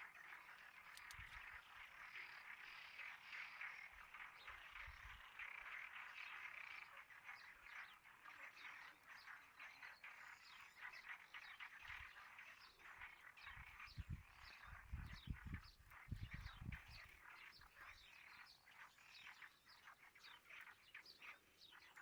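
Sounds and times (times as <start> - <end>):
frogs calling: 0.0 - 22.0.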